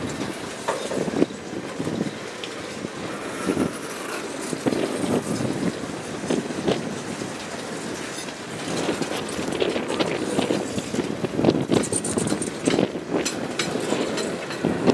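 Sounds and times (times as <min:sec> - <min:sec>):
freight train rumbling by: 0:00.0 - 0:14.9
train wheels clanking on rail joints: 0:00.0 - 0:14.9.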